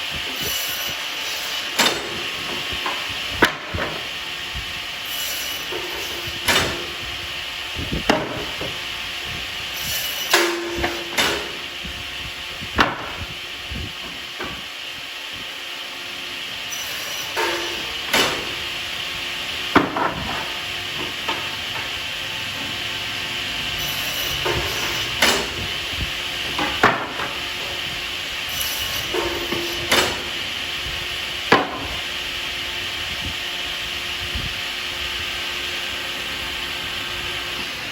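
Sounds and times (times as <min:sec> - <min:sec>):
saw whining: 0:00.0 - 0:37.9
saw blades cutting wood: 0:00.1 - 0:14.8, 0:15.7 - 0:34.0.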